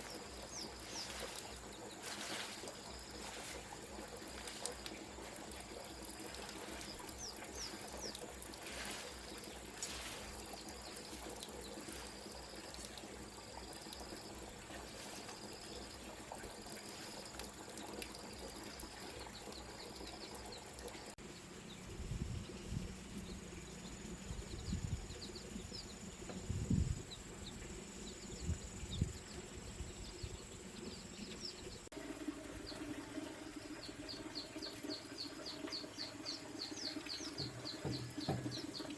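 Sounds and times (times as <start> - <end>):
small birds chirping: 0.0 - 31.9, 32.6 - 38.9.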